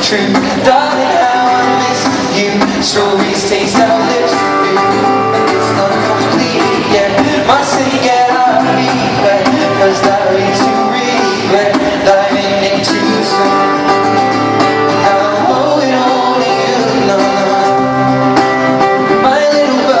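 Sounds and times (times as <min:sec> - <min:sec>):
man singing: 0:00.0 - 0:20.0
strummed acoustic guitar: 0:00.0 - 0:20.0.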